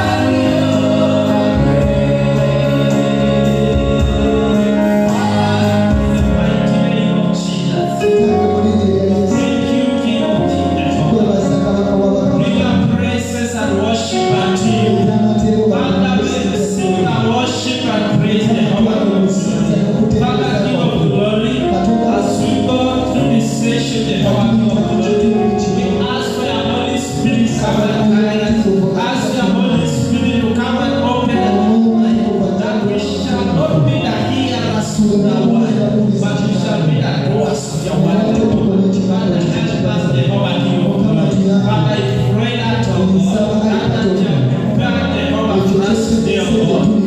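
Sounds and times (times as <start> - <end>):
band accompaniment: 0.0 - 47.0
gospel singing: 0.0 - 47.0.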